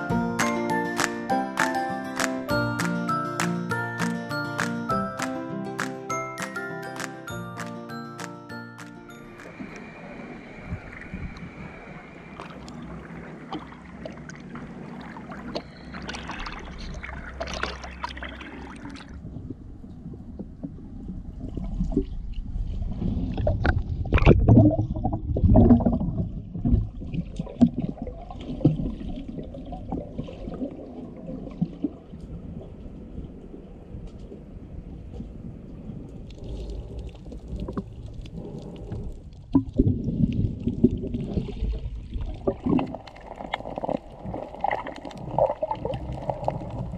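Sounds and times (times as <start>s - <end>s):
water sloshing and gurgling: 9.3s - 46.9s.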